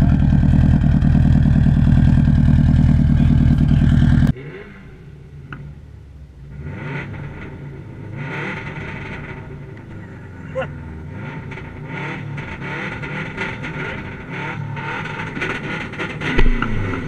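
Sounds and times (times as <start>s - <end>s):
rally car engine running: 0.0s - 17.0s.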